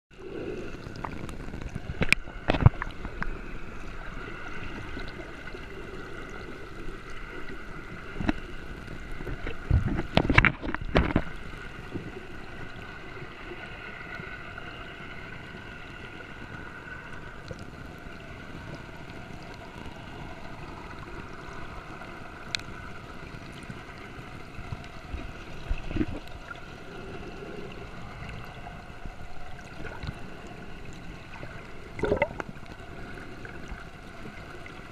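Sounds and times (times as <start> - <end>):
water splashes: 0.1 - 14.0, 18.4 - 34.9
water noise: 0.1 - 34.9.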